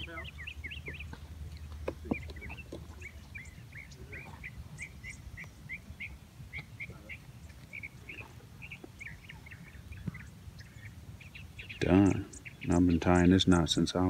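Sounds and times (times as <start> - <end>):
bird chirping: 0.0 - 13.8.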